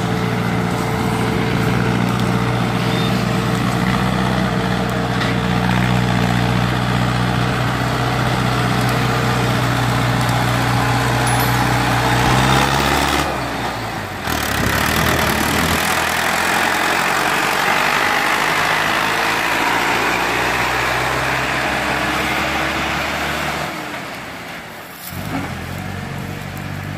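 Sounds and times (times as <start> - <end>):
heavy trolley tyres road noise: 0.0 - 26.9
tractor engine drone: 0.0 - 26.9.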